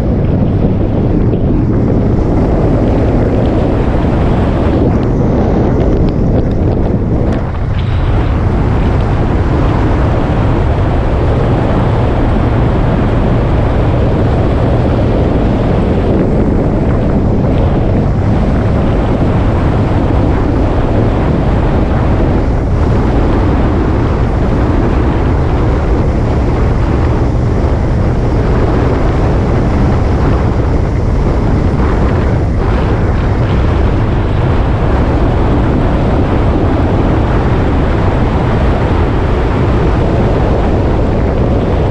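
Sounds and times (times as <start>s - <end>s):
motorcycle running: 0.0s - 41.9s
wind rush on microphone: 0.0s - 41.9s.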